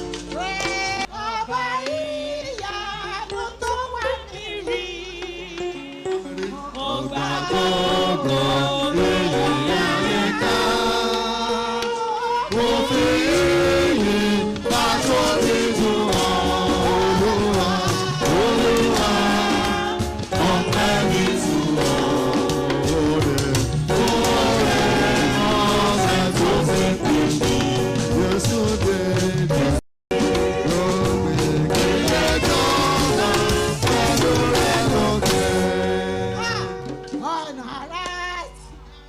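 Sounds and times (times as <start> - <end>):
gospel choir singing: 0.0 - 37.0
instrumental accompaniment: 0.0 - 39.0.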